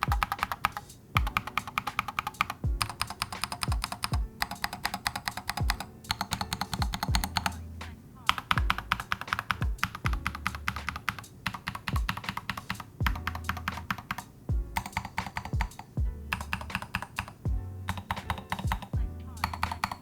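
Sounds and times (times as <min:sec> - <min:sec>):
mechanical keyboard typing: 0:00.0 - 0:07.7, 0:08.3 - 0:20.0
lo-fi beat with kick drum: 0:00.0 - 0:20.0.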